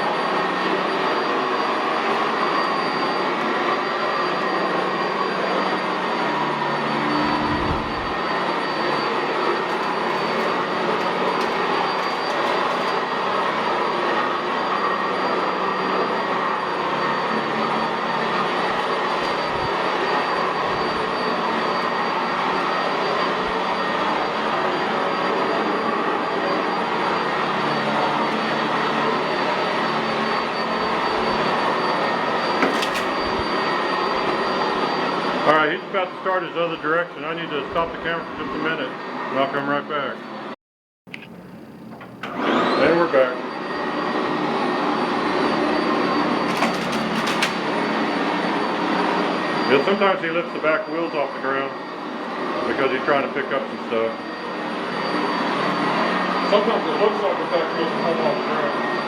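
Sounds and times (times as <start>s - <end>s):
upright vacuum running on carpet: 0.0s - 40.5s, 41.4s - 59.0s.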